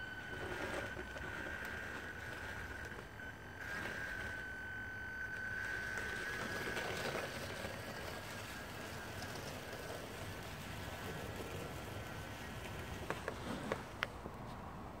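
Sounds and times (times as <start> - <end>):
electric motor whining: 0.0 - 13.9.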